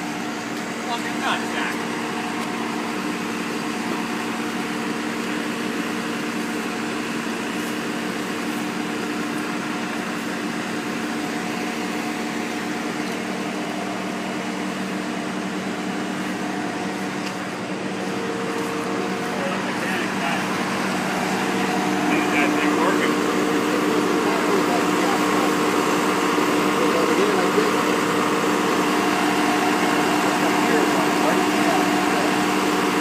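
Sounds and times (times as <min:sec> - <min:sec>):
paver engine droning: 0:00.0 - 0:33.0.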